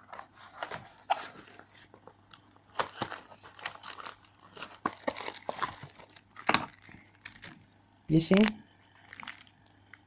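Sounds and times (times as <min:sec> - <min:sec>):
plastic cartridges clicking and rustling: 0:00.0 - 0:07.6, 0:08.4 - 0:10.0.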